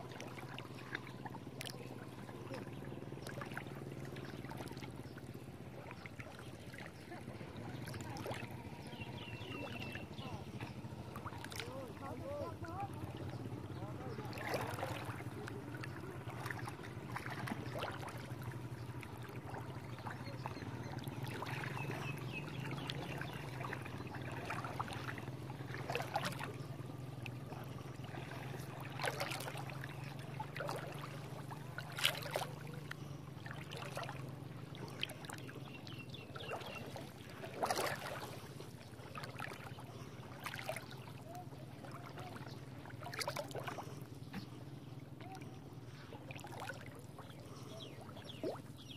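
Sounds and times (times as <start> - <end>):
steady low hum: 0.0 - 48.9
water splashing and sloshing: 0.0 - 48.9.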